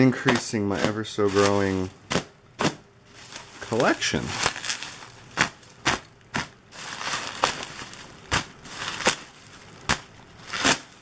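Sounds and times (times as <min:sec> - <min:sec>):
packaging crinkling and rustling: 0:00.2 - 0:11.0
sharp packaging crackles: 0:00.2 - 0:11.0.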